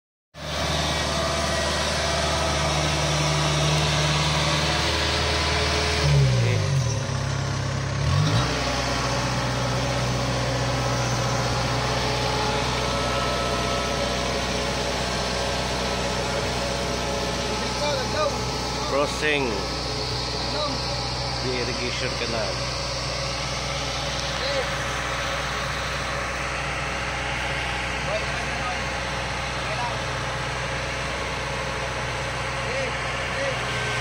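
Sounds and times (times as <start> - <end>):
diesel engine running: 0.4 - 34.0.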